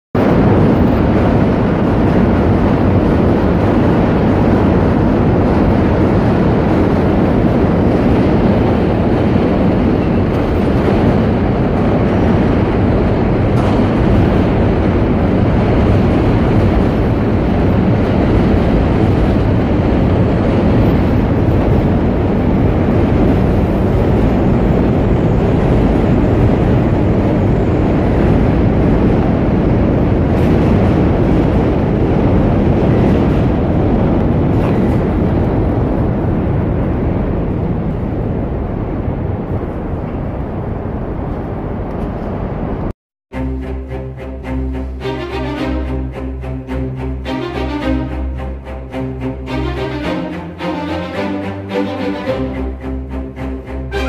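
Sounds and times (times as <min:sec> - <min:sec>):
loud low rumbling noise: 0:00.2 - 0:54.0.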